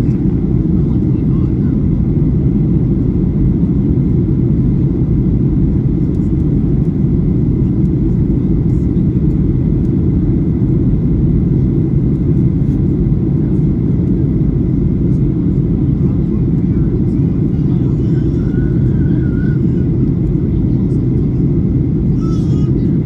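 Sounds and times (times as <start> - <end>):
jet engine cabin rumble: 0.0 - 23.0.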